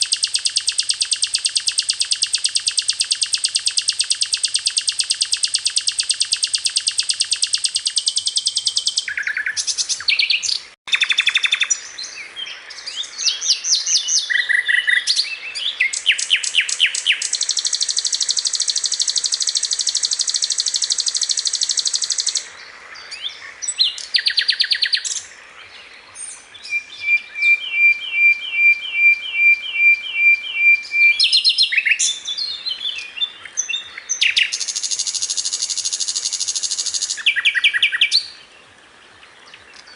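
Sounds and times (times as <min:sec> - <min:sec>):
bird quick chirping phrases: 0:00.0 - 0:11.8, 0:12.9 - 0:22.5, 0:26.6 - 0:38.4
bird singing buzzing trills: 0:00.0 - 0:22.5, 0:26.5 - 0:38.5.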